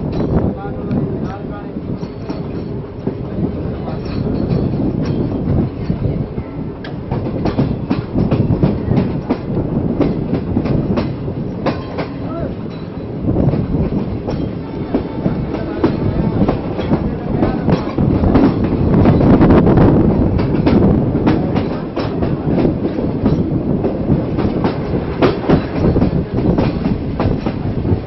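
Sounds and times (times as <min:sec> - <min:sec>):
train rumble: 0:00.0 - 0:28.0
train wheels clattering over rail joints: 0:00.0 - 0:28.0.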